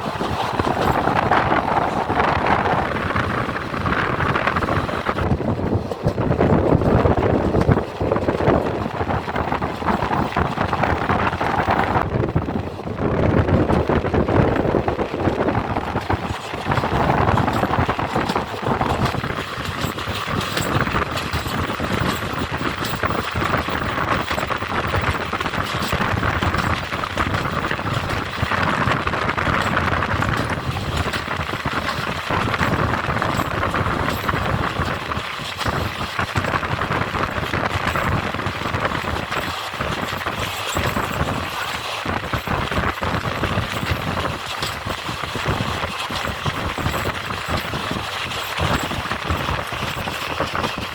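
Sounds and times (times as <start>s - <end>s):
passenger train rumbling on track: 0.0s - 50.9s
wheels clattering: 0.0s - 50.9s.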